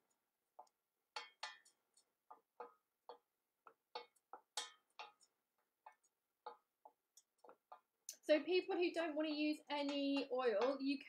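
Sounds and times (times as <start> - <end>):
mustard seeds popping in oil: 0.0 - 11.0.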